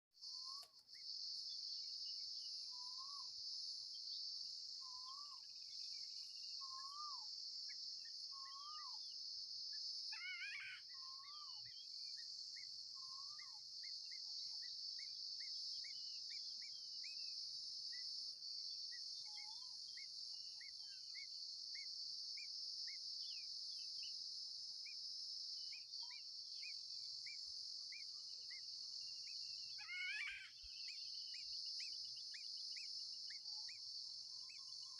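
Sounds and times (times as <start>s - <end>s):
insect chorus: 0.2s - 34.9s.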